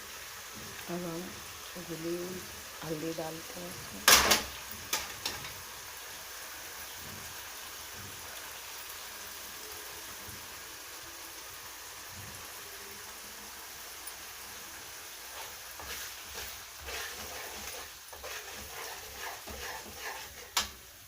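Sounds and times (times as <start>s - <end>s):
turmeric sizzling in hot oil: 0.0s - 21.0s.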